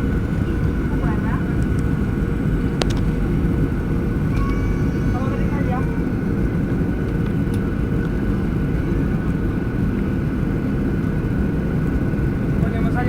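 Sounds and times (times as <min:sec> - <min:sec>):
airplane cabin engine and airflow roar: 0:00.0 - 0:13.0.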